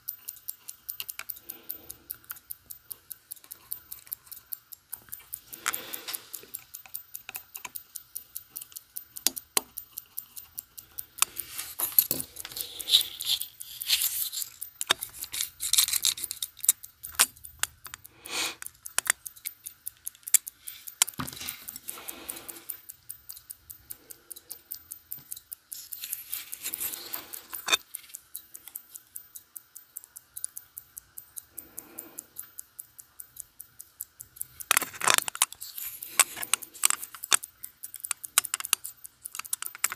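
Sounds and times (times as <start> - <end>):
tweezers clicking on metal: 0.0 - 39.9.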